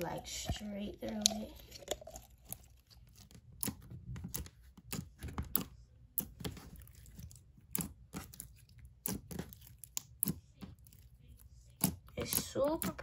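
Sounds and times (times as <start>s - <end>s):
slime being squished by hand: 2.2s - 13.0s.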